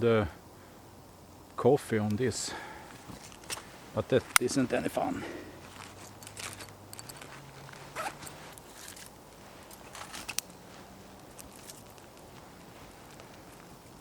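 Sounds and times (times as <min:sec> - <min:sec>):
quiet handling noise: 0:02.0 - 0:14.0.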